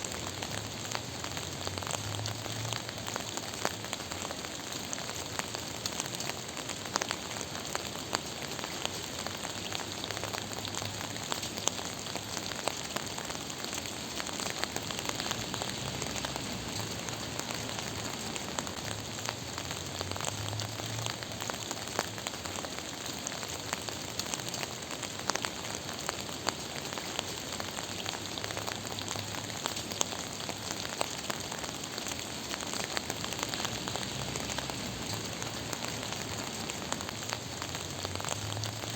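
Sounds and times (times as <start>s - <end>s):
raindrop ticks: 0.0s - 38.9s
steady rain falling: 0.0s - 38.9s.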